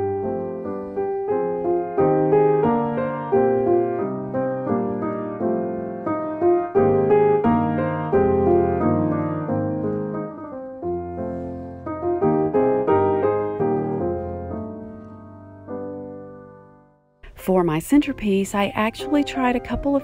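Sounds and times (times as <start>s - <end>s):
solo piano music: 0.0s - 20.0s.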